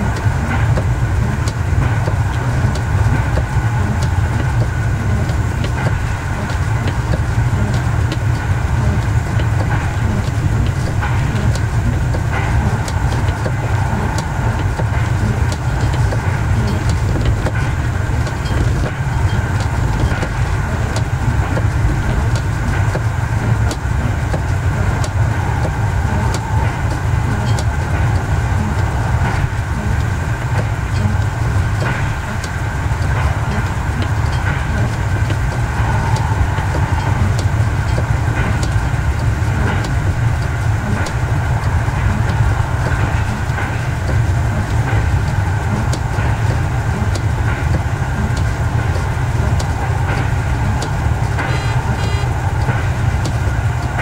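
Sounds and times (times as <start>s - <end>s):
diesel engine droning: 0.0s - 54.0s
train wheels on rails: 0.0s - 54.0s.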